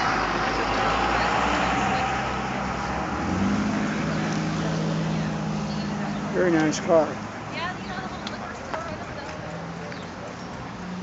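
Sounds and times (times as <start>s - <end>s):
outdoor traffic noise: 0.0s - 11.0s.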